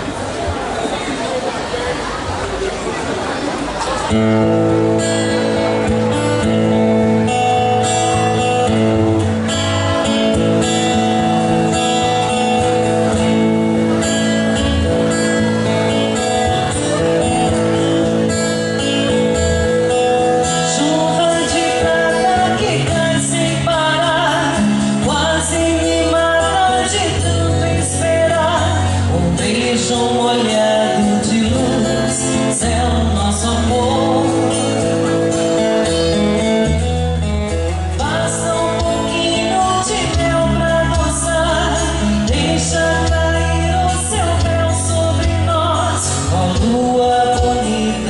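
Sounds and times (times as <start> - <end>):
live band playing pop: 3.8 - 48.0.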